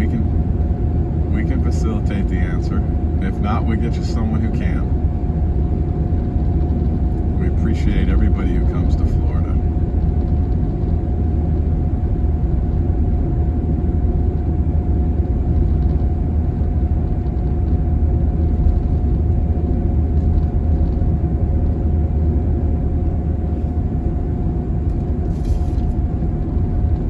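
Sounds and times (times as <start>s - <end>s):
car road and engine noise: 0.0s - 27.0s
faint high hum: 0.0s - 27.0s.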